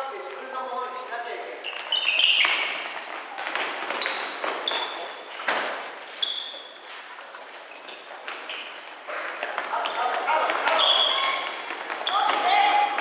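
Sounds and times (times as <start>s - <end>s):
shoes squeaking on wooden floor: 1.5s - 13.0s.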